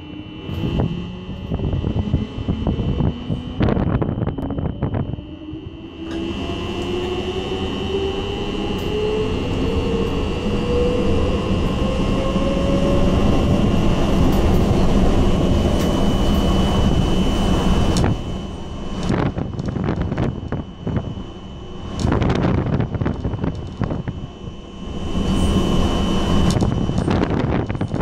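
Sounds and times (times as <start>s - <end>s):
steady high tone: 0.0s - 27.4s
train running gear rumble: 0.0s - 28.0s
train traction drive whine: 0.0s - 28.0s.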